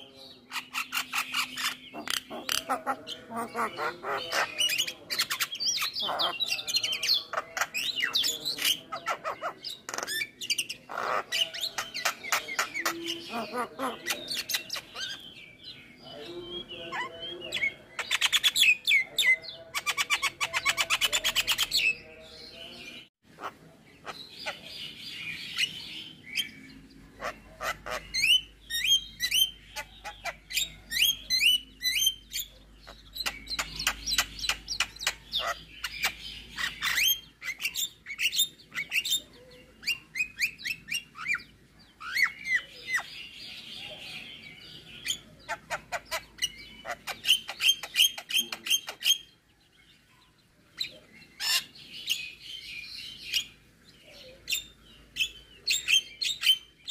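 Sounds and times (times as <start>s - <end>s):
myna bird singing: 0.0s - 56.9s.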